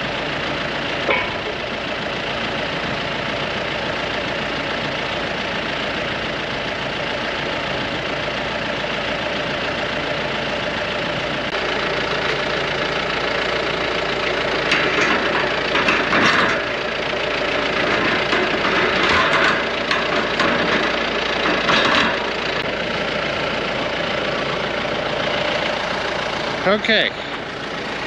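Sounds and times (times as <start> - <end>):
diesel tractor engine idling: 0.0 - 28.0.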